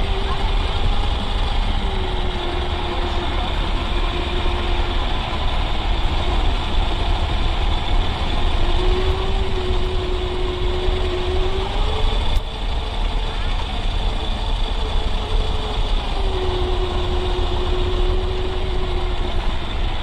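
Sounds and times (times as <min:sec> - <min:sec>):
low rumble of model truck: 0:00.0 - 0:20.0
thin steady whine: 0:00.0 - 0:20.0.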